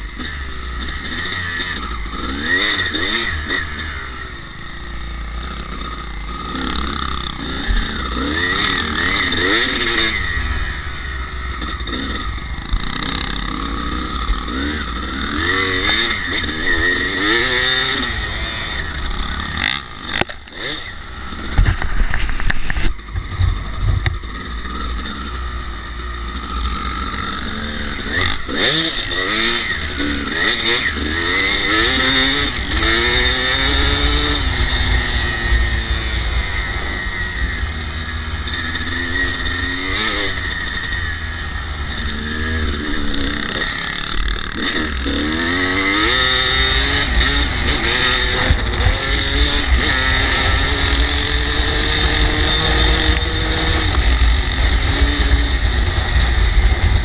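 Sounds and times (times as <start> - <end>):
dirt bike engine revving: 0.0 - 57.0
knocks and rattles of bike: 5.4 - 35.9, 38.4 - 57.0.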